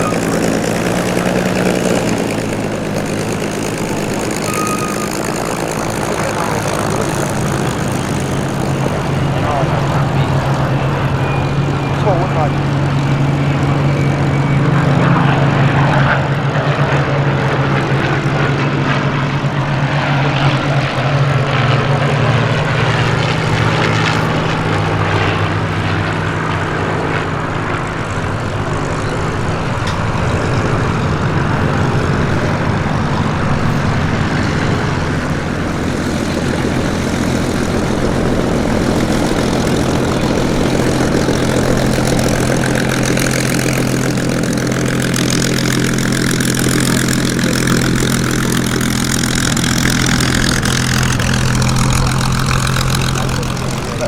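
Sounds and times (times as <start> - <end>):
propeller aircraft engines droning: 0.0 - 54.0.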